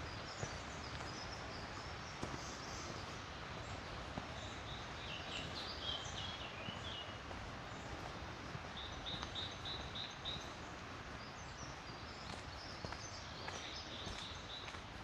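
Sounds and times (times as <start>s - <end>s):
birds chirping: 0.0s - 15.0s
faint footsteps on path: 0.0s - 15.0s
river water flowing: 0.0s - 15.0s.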